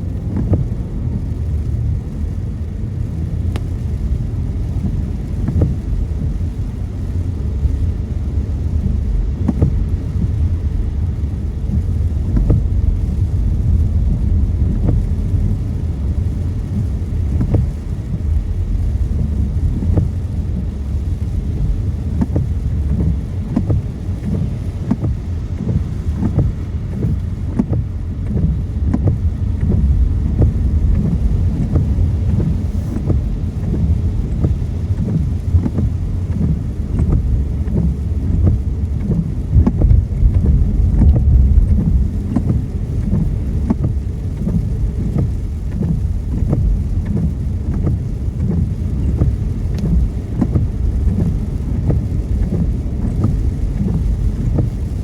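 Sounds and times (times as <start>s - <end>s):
car driving on wet road: 0.0s - 55.0s
raindrops tapping on windscreen: 0.0s - 55.0s.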